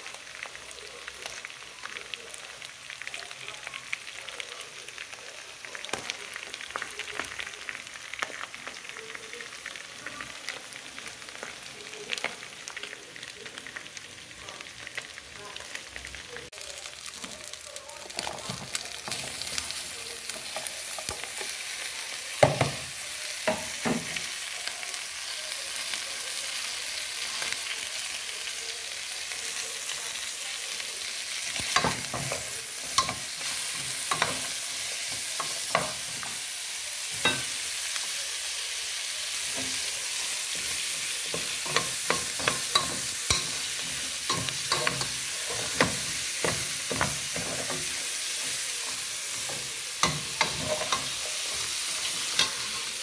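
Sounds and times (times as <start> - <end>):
chicken sizzling in a pot: 0.0 - 53.0.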